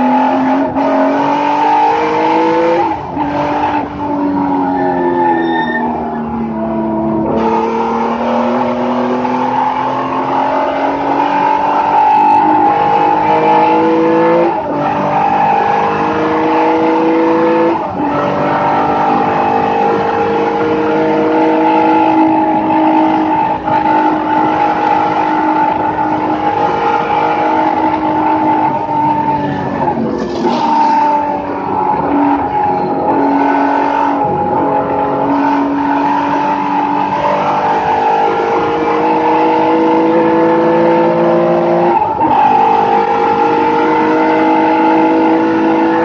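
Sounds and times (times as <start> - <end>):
race car engine at full throttle: 0.0 - 46.0.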